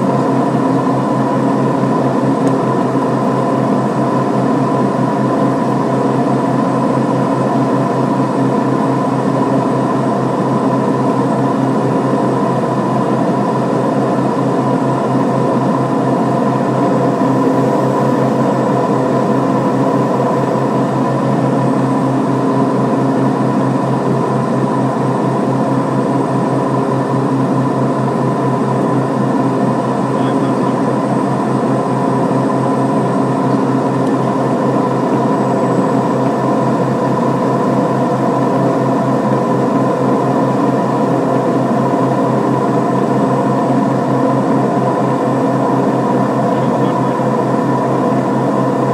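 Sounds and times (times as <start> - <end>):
turboprop engines droning: 0.0 - 48.9.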